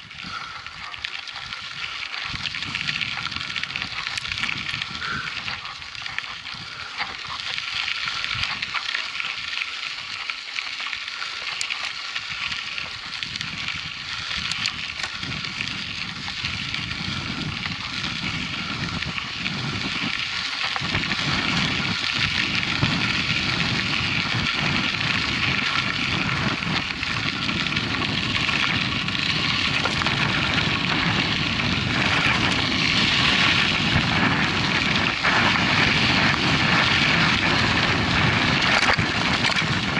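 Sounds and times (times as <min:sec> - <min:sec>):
wind on microphone: 0:00.0 - 0:10.2, 0:12.1 - 0:39.9
tyres crackling over gravel: 0:00.0 - 0:39.9.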